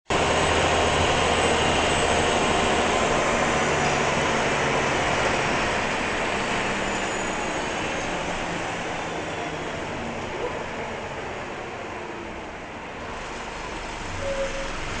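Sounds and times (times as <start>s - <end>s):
bus diesel engine running: 0.1s - 15.0s.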